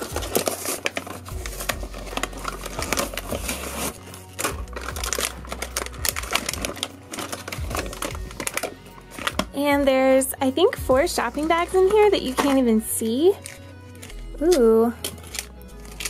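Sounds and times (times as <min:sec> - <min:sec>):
plastic packaging crinkling: 0:00.0 - 0:09.6, 0:11.2 - 0:16.0.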